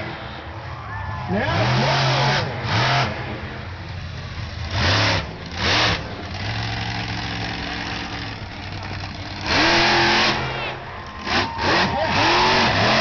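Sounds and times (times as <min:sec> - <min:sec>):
monster truck engine revving: 0:01.3 - 0:13.0.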